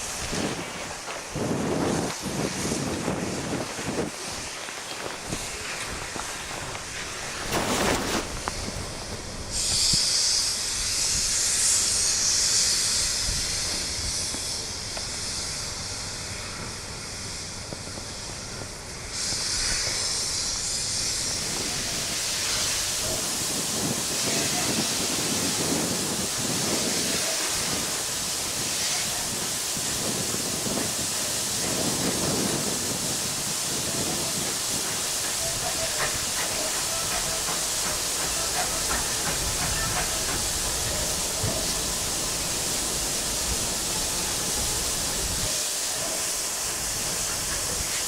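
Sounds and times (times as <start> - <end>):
steam locomotive hissing steam: 0.0 - 48.0.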